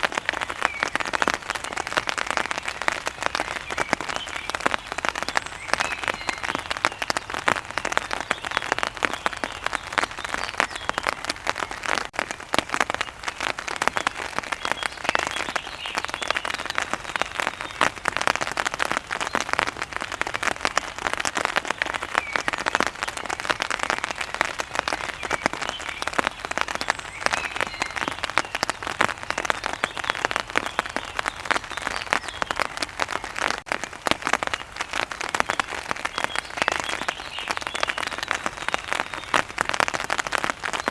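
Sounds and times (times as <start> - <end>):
rain on hard surface: 0.0 - 40.9.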